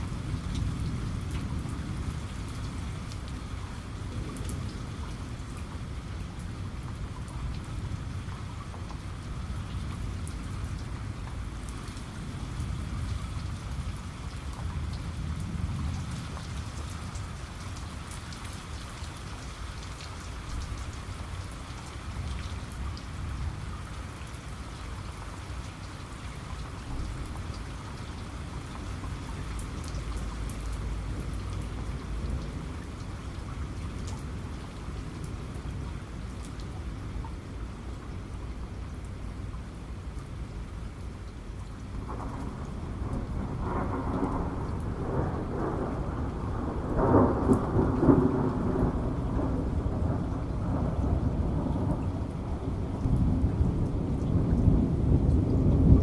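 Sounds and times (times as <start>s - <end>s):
heavy rain falling: 0.0s - 56.0s
low rumble of thunder: 0.0s - 56.0s.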